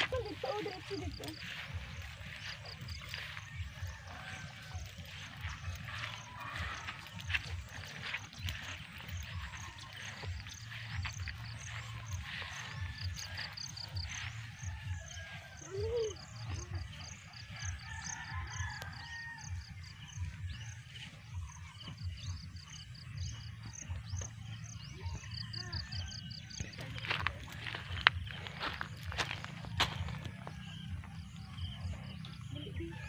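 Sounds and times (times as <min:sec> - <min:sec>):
rumble of walking through grass: 0:00.0 - 0:33.0.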